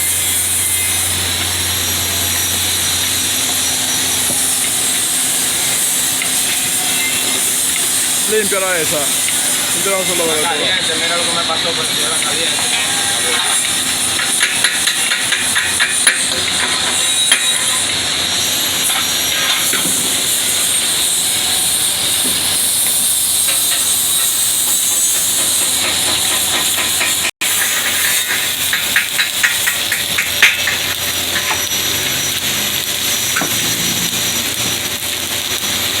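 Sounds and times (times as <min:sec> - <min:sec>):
welding arc hissing and crackling: 0:00.0 - 0:36.0.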